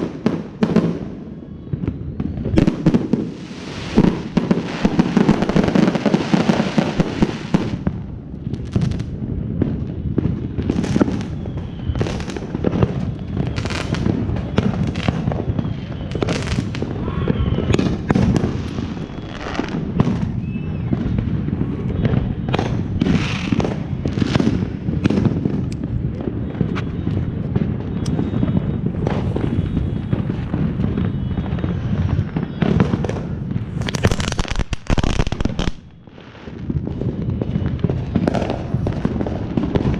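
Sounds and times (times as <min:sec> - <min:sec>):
fireworks bangs and pops: 0:00.0 - 0:39.9
ground firework crackling sparks: 0:00.0 - 0:39.9.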